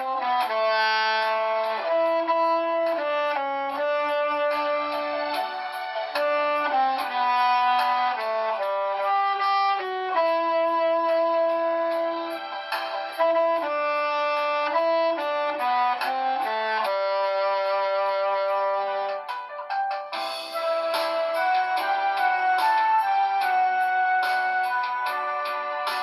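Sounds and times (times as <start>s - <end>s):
backing track with hi-hat beat: 0.0s - 26.0s
tenor saxophone melody: 0.0s - 26.0s.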